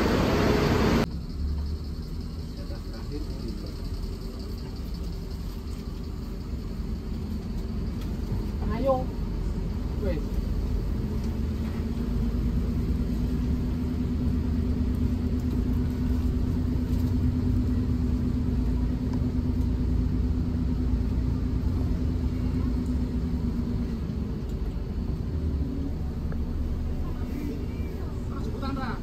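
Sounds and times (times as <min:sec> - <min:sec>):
bus engine rumble: 0:00.0 - 0:29.0.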